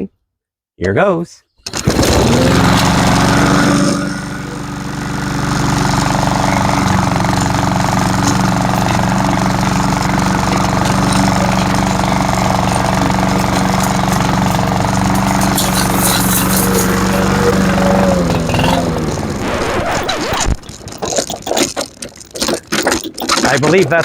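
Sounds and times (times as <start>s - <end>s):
lawn mower engine running: 1.7s - 23.5s.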